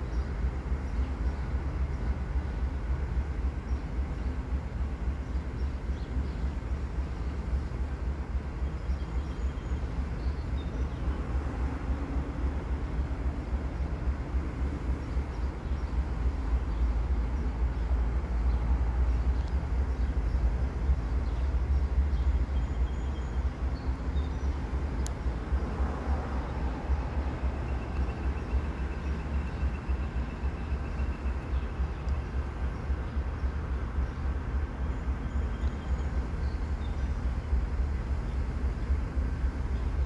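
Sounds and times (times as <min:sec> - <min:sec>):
freight train cars rumbling: 0:00.0 - 0:40.0.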